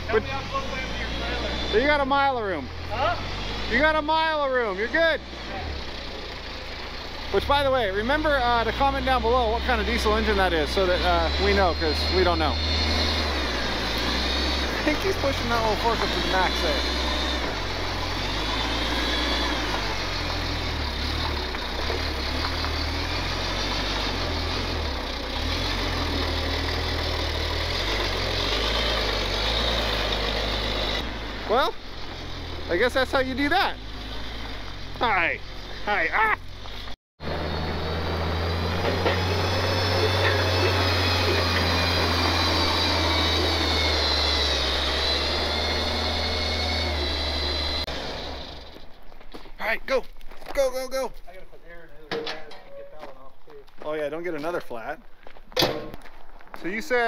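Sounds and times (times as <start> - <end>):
forklift engine under load: 0.0 - 49.0.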